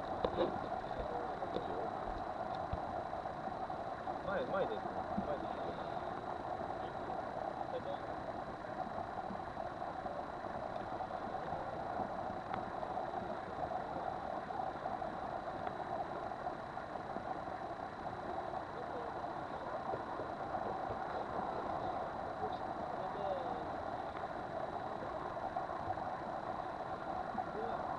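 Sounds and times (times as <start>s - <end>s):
boat engine running: 0.0s - 27.9s.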